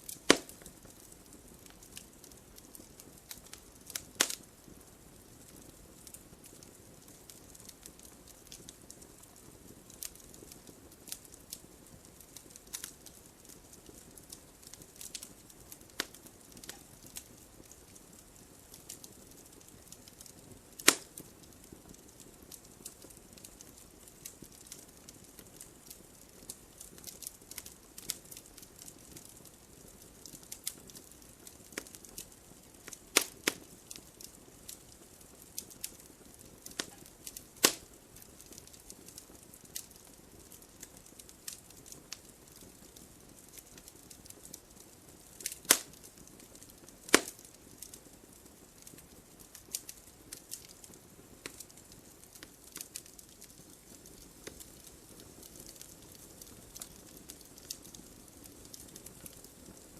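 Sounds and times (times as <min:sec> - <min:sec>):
faint low hiss: 0:00.0 - 0:59.9
wood fire crackling: 0:00.0 - 0:59.9.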